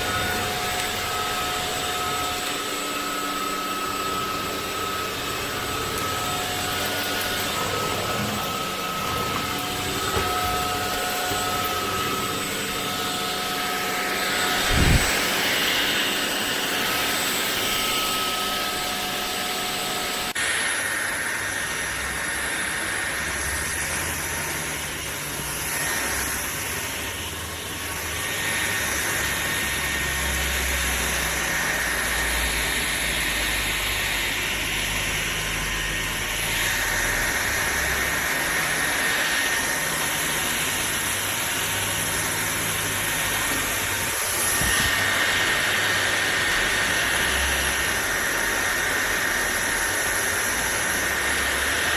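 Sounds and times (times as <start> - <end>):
vacuum cleaner whine: 0.0 - 51.9.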